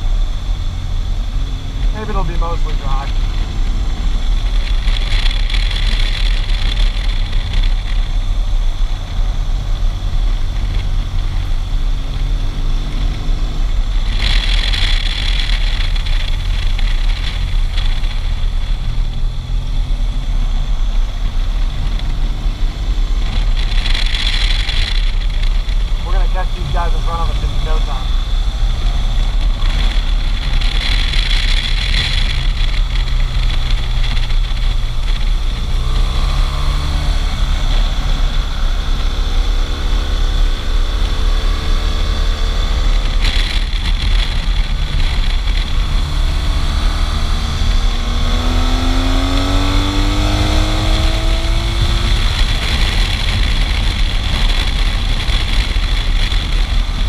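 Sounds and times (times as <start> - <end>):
motorcycle engine rumble: 0.0 - 57.0
wind noise: 0.0 - 57.0.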